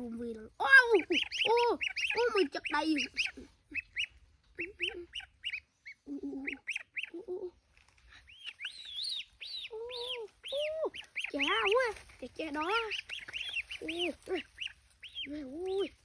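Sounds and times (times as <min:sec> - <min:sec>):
baby birds chirping: 0:00.0 - 0:16.0.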